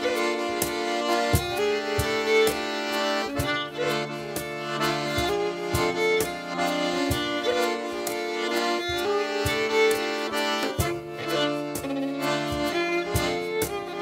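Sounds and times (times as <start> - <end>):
accordion and fiddle dance tune: 0.0 - 14.0
short sharp knocks: 0.6 - 14.0.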